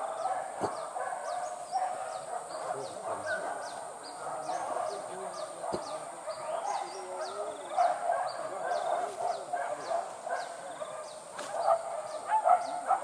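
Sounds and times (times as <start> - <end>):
bird chirps: 0.0 - 13.0
distant dogs barking and baying: 0.0 - 13.0.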